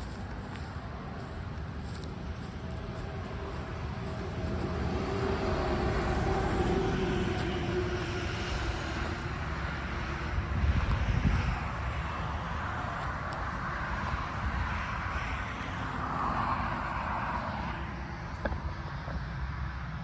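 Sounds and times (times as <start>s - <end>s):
aircraft engine drone: 0.0s - 20.0s.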